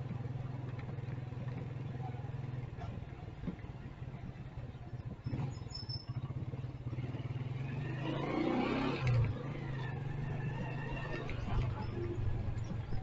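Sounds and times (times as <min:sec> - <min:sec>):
motorcycle engine droning: 0:00.0 - 0:13.0
street traffic noise: 0:00.0 - 0:13.0.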